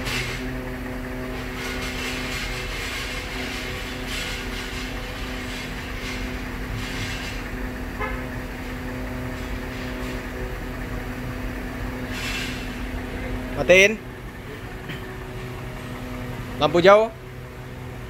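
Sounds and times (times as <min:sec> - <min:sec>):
suv engine idling: 0:00.0 - 0:18.0.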